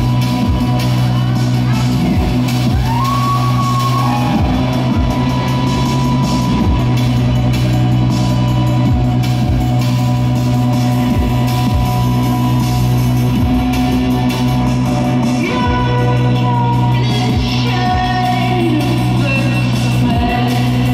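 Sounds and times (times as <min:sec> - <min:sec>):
drum kit: 0:00.0 - 0:20.9.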